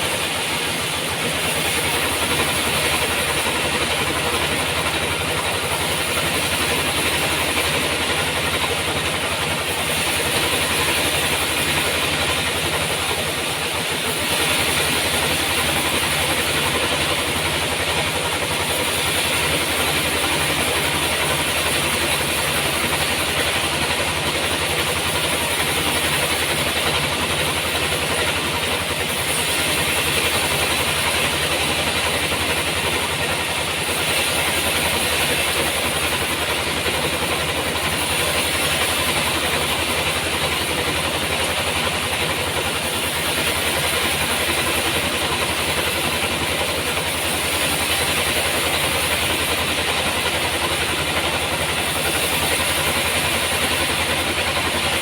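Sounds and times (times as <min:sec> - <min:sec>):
sawmill motor drone: 0:00.0 - 0:55.0.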